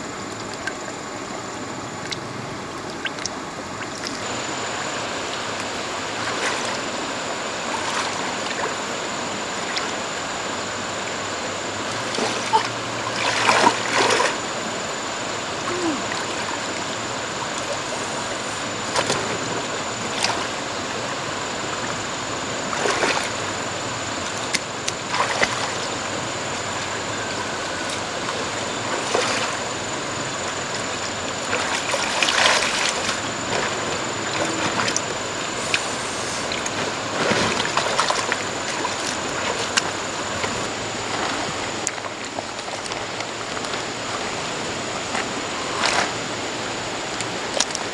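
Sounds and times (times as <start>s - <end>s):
rush of moving water: 0.0s - 47.9s
water splashing: 0.2s - 47.9s.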